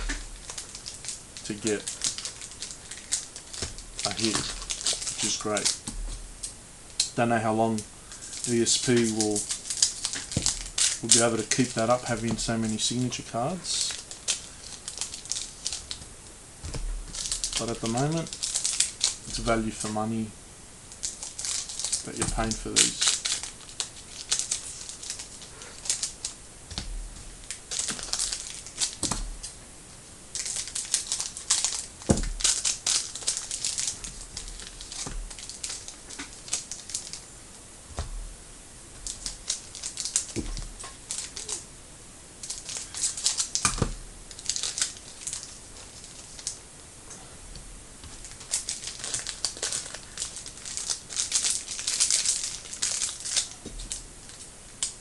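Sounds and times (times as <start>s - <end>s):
card pack wrappers crinkling: 0.0s - 16.1s, 16.7s - 20.2s, 20.9s - 29.6s, 30.3s - 37.3s, 39.0s - 41.6s, 42.4s - 46.6s, 48.0s - 55.0s.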